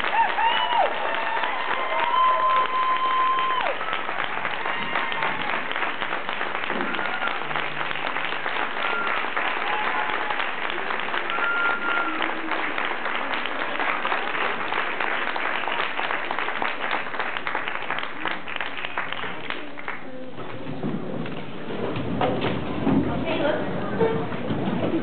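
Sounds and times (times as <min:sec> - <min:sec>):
audience applauding: 0:00.0 - 0:20.3.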